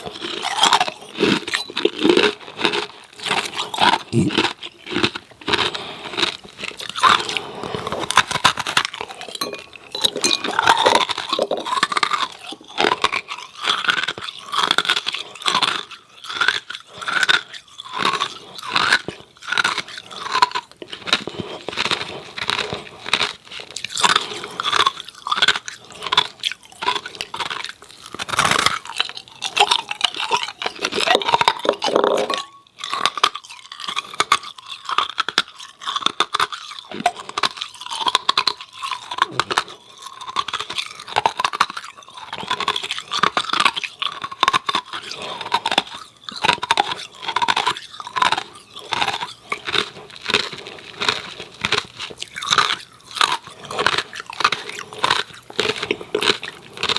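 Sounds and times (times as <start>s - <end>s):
chewing ice cubes: 0.0s - 56.9s.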